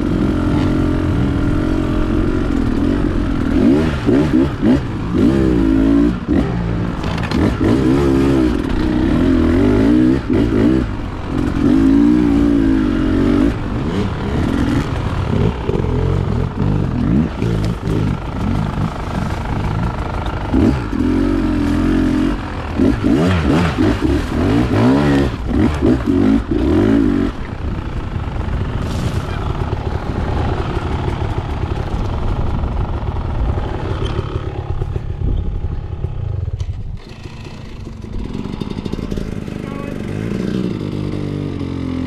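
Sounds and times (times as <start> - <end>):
dirt bike engine revving: 0.0 - 35.0, 37.0 - 42.0.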